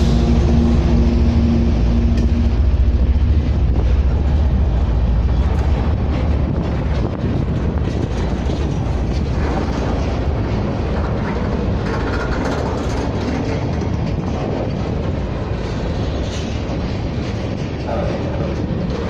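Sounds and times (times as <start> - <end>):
freight train wheels rumbling: 0.0 - 19.0
train cars clattering: 0.0 - 19.0.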